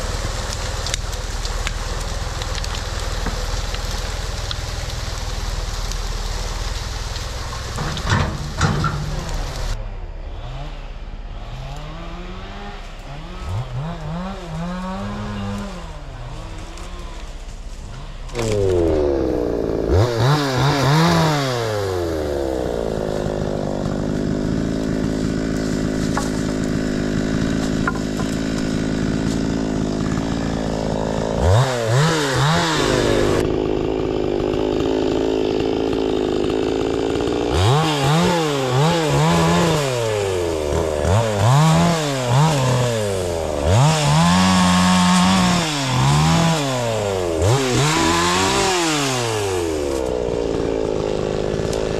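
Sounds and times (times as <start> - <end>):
chainsaw revving: 0.0 - 51.9.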